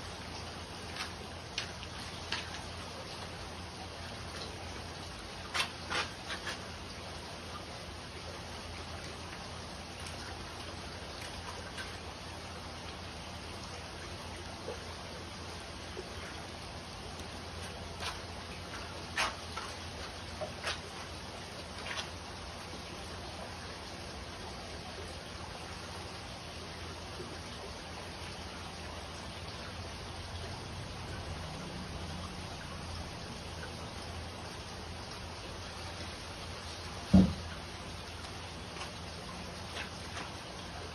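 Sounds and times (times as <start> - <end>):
low steady hum: 0.0 - 40.9
water trickling and rushing: 0.0 - 40.9.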